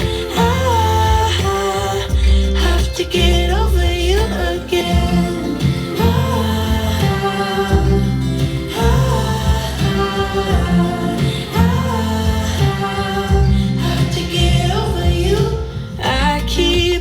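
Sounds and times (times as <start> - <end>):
guitar: 0.0 - 17.0
person singing: 0.0 - 17.0
repeating bass line: 0.0 - 17.0
song over speakers: 0.0 - 17.0.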